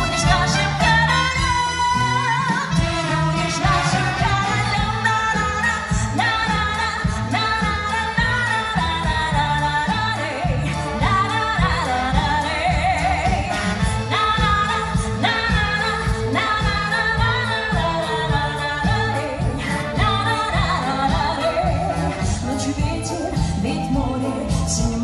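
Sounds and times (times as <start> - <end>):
orchestra of strings and brass: 0.0 - 23.2
woman singing: 0.0 - 25.0.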